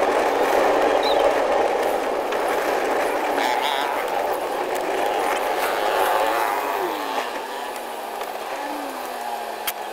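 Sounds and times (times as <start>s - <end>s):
low steady engine tone: 0.0s - 9.9s
small vehicle engines running: 0.0s - 9.9s.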